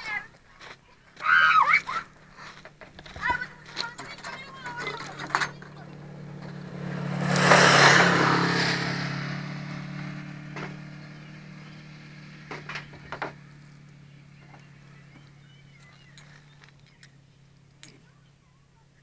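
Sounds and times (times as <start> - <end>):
low engine hum: 0.0 - 19.0
motor vehicle passing: 0.0 - 19.0.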